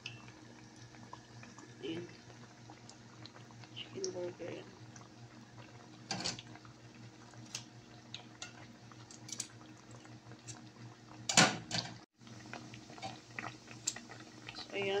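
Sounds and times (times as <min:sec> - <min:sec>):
oil sizzling with pops: 0:00.0 - 0:15.0.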